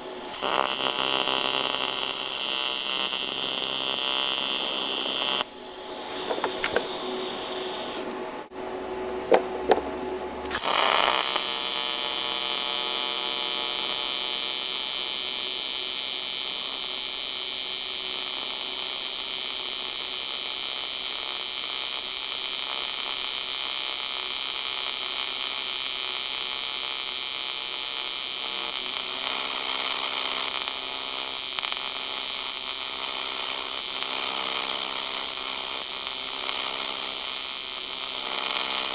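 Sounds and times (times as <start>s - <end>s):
welding arc buzzing: 0.0s - 8.2s, 10.4s - 38.9s.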